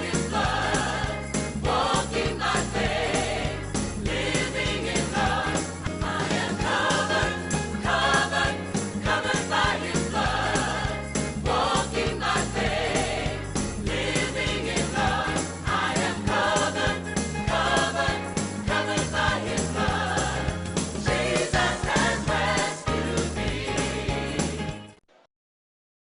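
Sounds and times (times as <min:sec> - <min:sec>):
tambourine jingling: 0:00.0 - 0:23.4
steady beat and percussion: 0:00.0 - 0:24.8
choir singing gospel music: 0:00.0 - 0:25.0.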